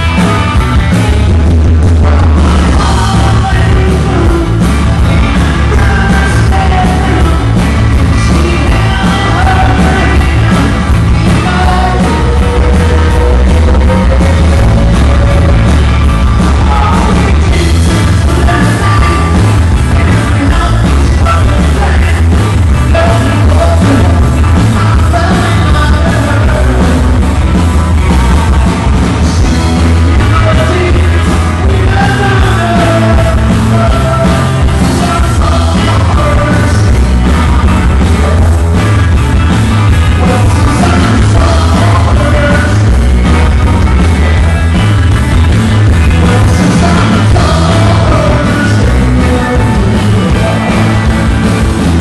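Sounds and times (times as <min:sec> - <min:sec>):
acoustic and electric guitars: 0:00.0 - 0:52.0
drums: 0:00.0 - 0:52.0
man singing into a microphone: 0:00.9 - 0:27.3, 0:27.9 - 0:38.8, 0:40.1 - 0:44.8, 0:46.0 - 0:51.4.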